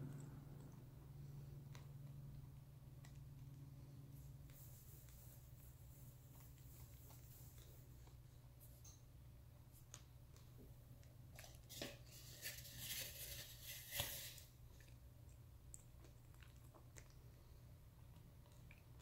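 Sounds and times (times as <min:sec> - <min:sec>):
person chewing clay crackly: 0:00.0 - 0:11.9, 0:14.5 - 0:19.0.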